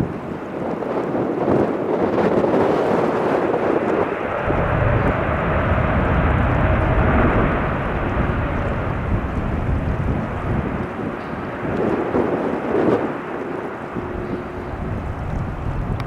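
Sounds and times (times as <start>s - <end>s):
faint jet engine whine: 0.0s - 16.0s
jet engines roaring: 0.0s - 16.0s.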